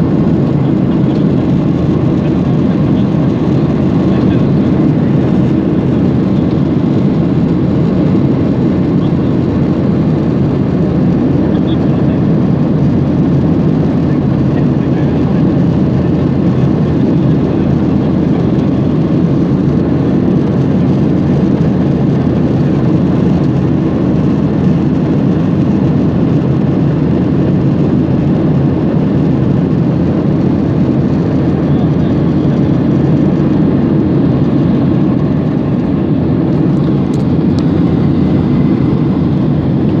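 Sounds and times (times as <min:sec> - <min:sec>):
airliner cabin engine rush: 0:00.0 - 0:40.0.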